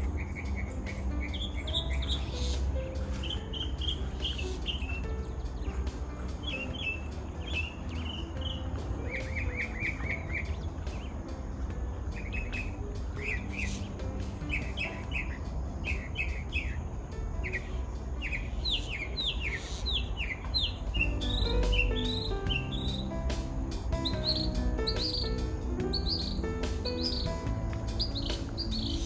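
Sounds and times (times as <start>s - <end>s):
birds chirping: 0.0s - 29.0s
low steady rumble: 0.0s - 29.0s.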